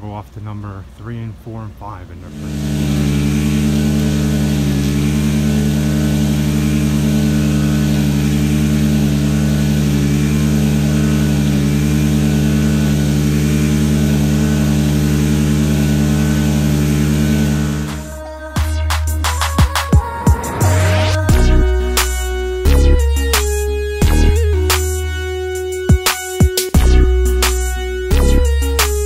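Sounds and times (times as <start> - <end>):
engine idling: 2.2 - 29.0.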